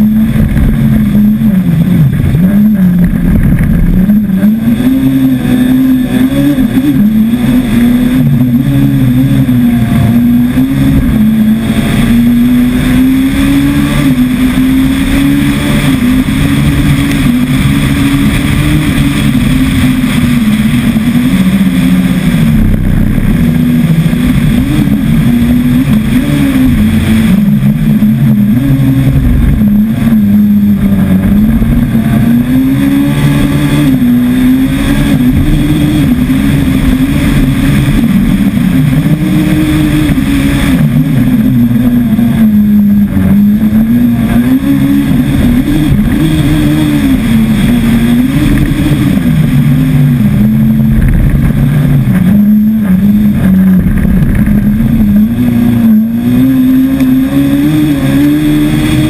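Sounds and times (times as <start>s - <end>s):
race car engine revving: 0.0s - 59.0s
wind and tyre noise: 0.0s - 59.0s.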